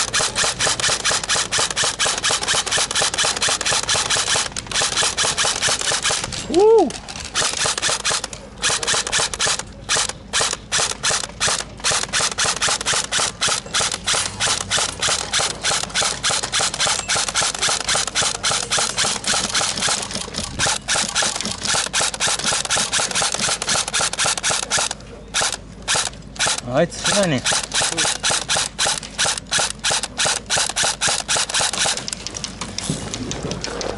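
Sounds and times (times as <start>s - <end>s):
airsoft gun firing: 0.0s - 6.4s, 7.3s - 32.2s.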